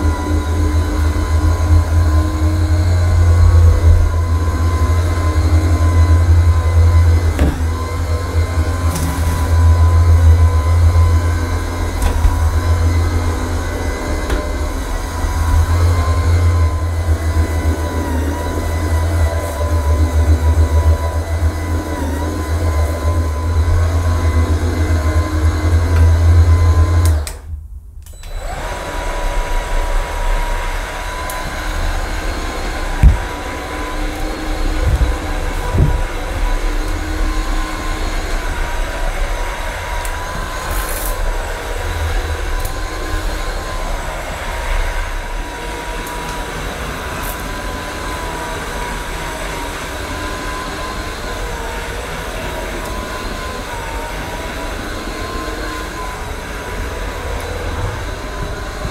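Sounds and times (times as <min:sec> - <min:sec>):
floor cleaner motor whining: 0:00.0 - 0:58.9.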